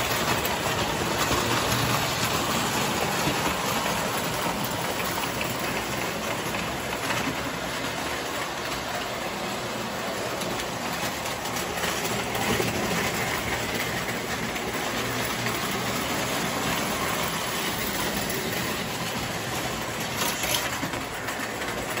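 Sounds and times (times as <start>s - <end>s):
toy trains running on metal track: 0.0s - 22.0s.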